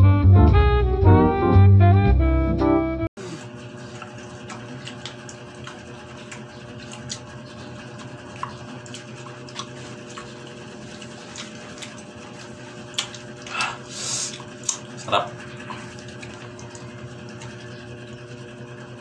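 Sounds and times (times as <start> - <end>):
people chewing wetly: 3.4 - 18.6.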